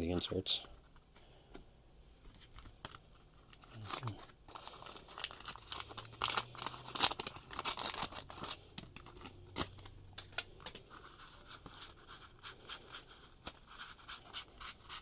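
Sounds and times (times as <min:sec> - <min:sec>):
cards and wax paper crinkling: 0:00.0 - 0:01.2, 0:02.2 - 0:15.0.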